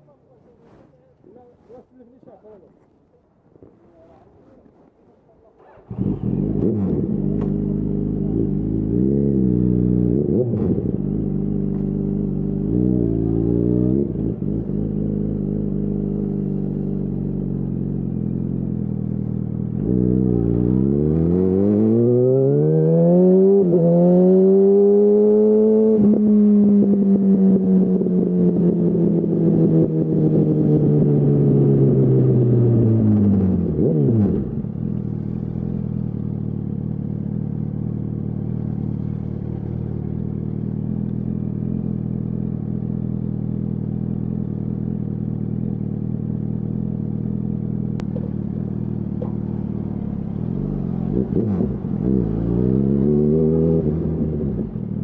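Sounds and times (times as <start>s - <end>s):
motorcycle engine revving: 5.6s - 55.0s.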